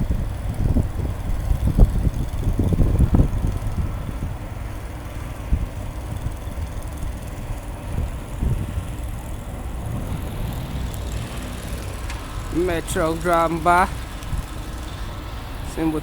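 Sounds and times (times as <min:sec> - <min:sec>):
traffic rumble: 0:00.0 - 0:16.0
wind buffeting microphone: 0:00.0 - 0:16.0.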